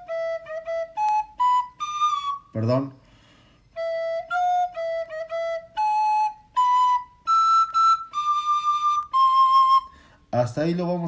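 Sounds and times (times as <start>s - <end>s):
recorder playing melody: 0.0s - 2.9s, 3.6s - 10.2s.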